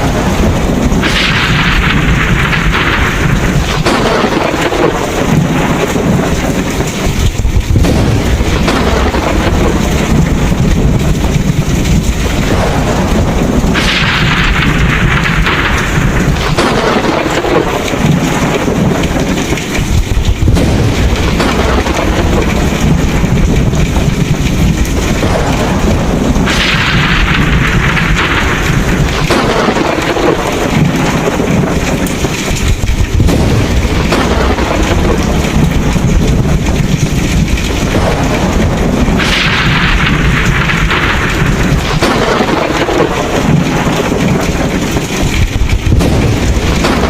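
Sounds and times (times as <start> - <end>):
heavy rain: 0.0 - 47.0
low rumble of thunder: 0.0 - 47.0
thunder crashes: 0.0 - 47.0.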